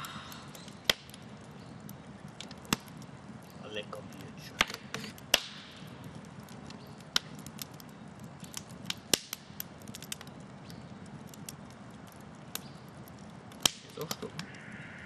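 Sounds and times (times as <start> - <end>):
campfire crackling and popping: 0.0 - 15.0
low steady fire hiss: 0.0 - 15.0.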